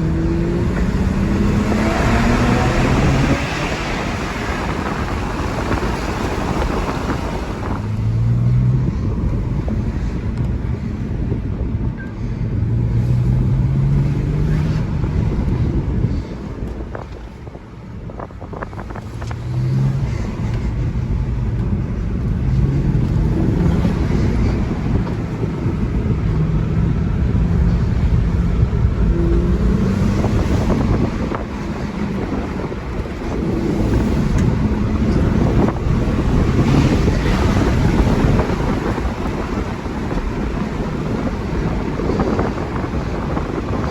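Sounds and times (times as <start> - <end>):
car engine revving under throttle: 0.0 - 10.6, 18.4 - 43.9
wind noise on microphone: 0.0 - 43.9.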